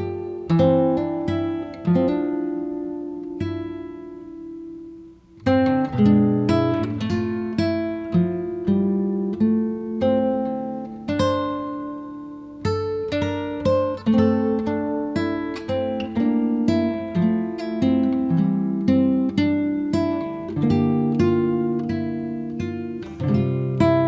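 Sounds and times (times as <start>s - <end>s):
plucked acoustic guitar: 0.0s - 24.0s.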